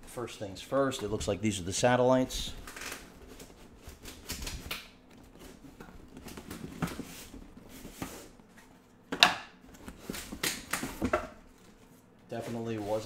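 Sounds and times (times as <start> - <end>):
cardboard rustling and scraping: 2.3 - 13.0.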